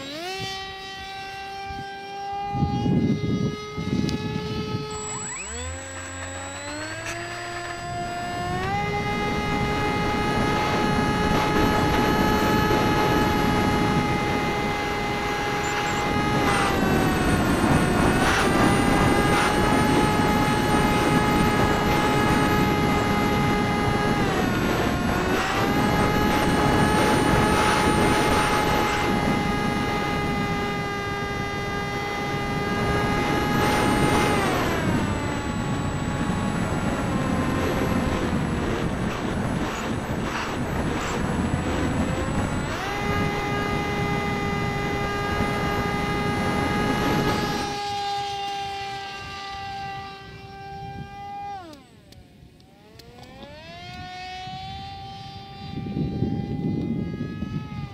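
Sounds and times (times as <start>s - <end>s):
wind rushing past microphone: 0.0s - 52.6s, 53.2s - 57.9s
electric motor high whine: 0.0s - 57.9s.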